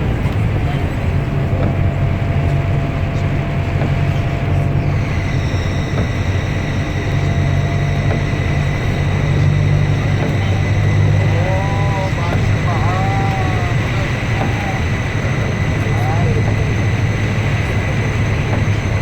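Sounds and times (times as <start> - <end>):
bus engine drone: 0.0 - 19.0
high-pitched whine: 2.6 - 19.0.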